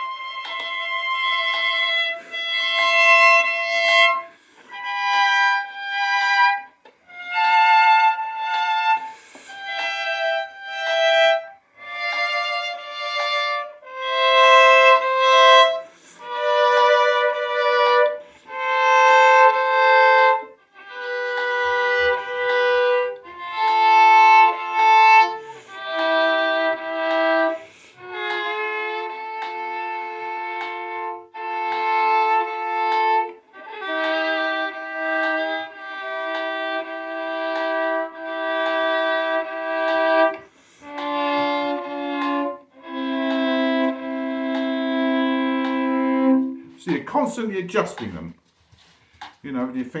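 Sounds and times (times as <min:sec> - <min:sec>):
solo violin double stops: 0:00.0 - 0:48.3.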